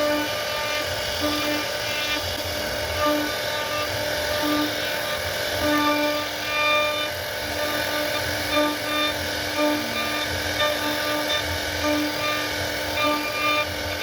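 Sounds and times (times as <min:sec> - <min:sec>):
cnc router cutting wood: 0:00.0 - 0:14.0
machine whining tones: 0:00.0 - 0:14.0.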